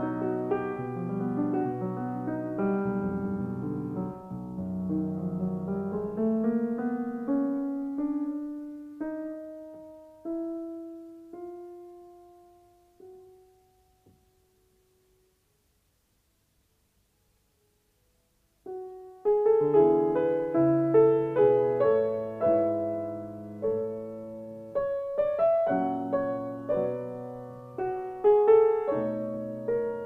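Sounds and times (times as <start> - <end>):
solo piano music: 0.0 - 15.7, 17.2 - 30.0.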